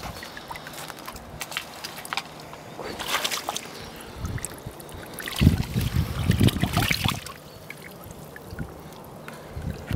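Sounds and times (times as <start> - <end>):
fish splashing and flapping: 0.0 - 9.9
water sloshing: 0.0 - 9.9.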